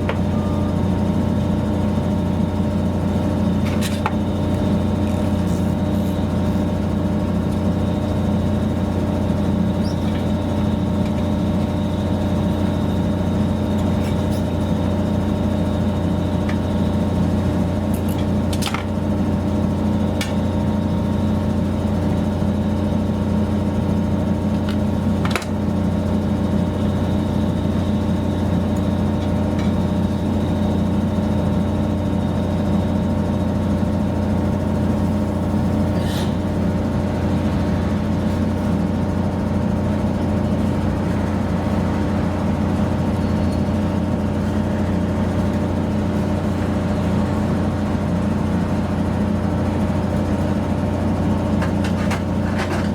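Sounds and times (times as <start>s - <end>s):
motor humming: 0.0s - 47.9s.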